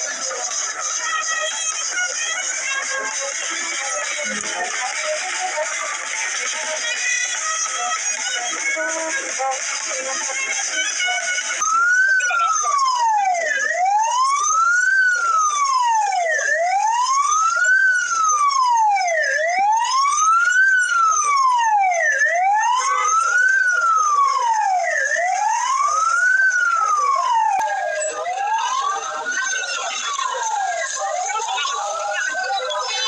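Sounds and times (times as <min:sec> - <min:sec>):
emergency siren wailing: 0:00.0 - 0:33.0.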